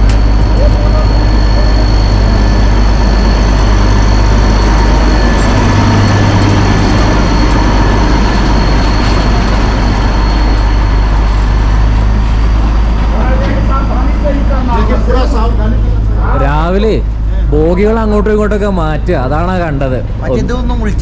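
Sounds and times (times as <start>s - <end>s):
diesel locomotive engine humming: 0.0s - 21.0s
high whine: 0.0s - 21.0s.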